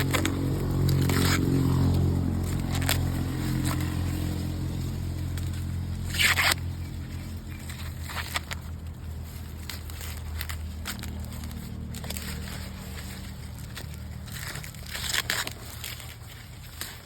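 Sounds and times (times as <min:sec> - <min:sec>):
corn husks rustling and tearing: 0:00.0 - 0:17.0.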